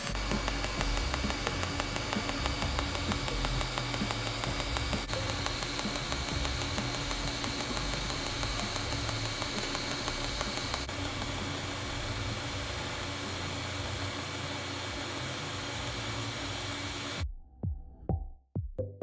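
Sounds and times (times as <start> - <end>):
welding arc hissing: 0.0 - 17.2.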